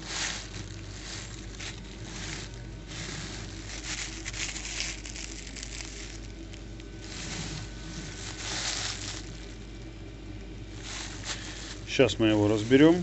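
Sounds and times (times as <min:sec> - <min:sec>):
crinkling and rustling handling noise: 0:00.0 - 0:13.0
steady low hum: 0:00.0 - 0:13.0.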